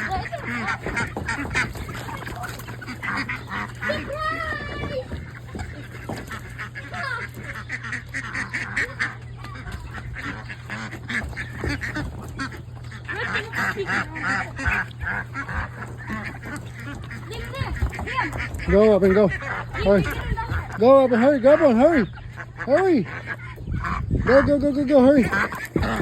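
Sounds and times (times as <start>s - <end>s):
ducks quacking: 0.0s - 26.0s
steady low hum: 0.0s - 26.0s.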